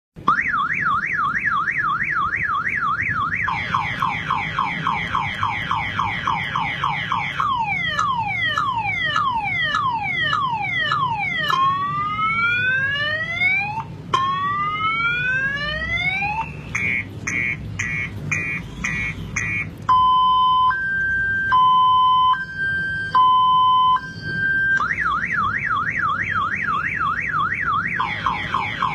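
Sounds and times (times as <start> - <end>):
electronic car alarm: 0.3 - 28.9.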